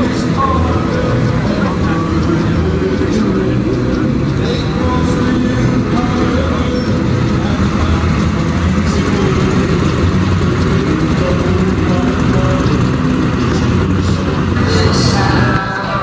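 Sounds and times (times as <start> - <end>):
car engine idling deep exhaust: 0.0 - 15.6.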